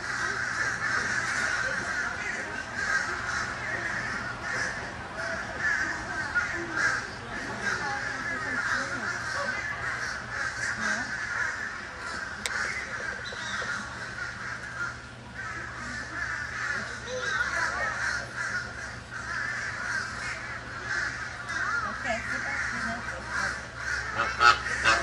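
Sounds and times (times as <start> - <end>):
wading birds calling: 0.0 - 25.0.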